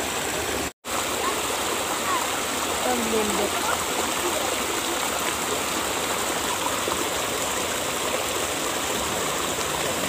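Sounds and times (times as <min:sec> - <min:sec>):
river water flowing over rocks: 0:00.0 - 0:10.0.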